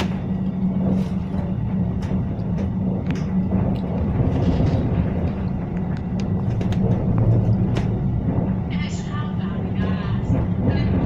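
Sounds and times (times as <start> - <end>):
small clicks and rattles: 0.0 - 11.0
tram rumbling on rails: 0.0 - 11.0.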